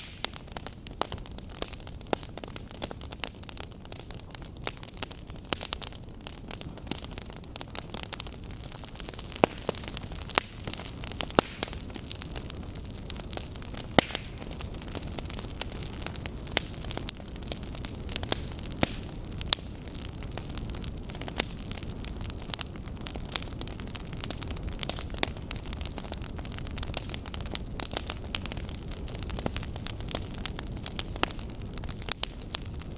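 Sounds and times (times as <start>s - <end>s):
campfire crackling and hissing: 0.0s - 32.9s.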